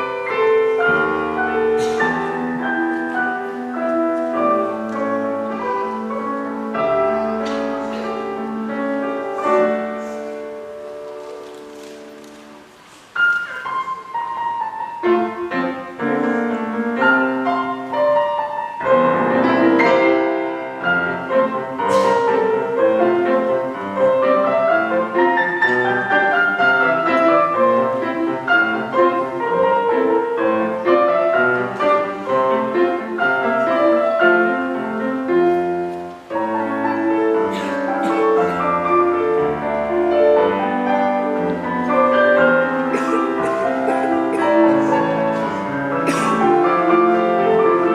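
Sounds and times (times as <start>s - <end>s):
piano melody over chords: 0.0s - 47.9s.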